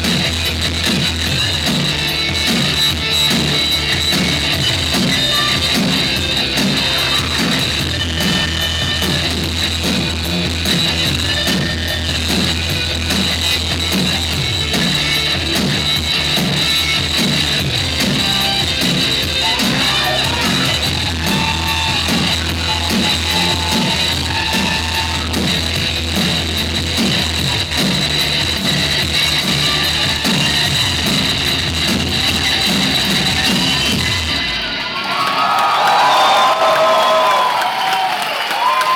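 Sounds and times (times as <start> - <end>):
live band instrumental music: 0.0 - 34.6.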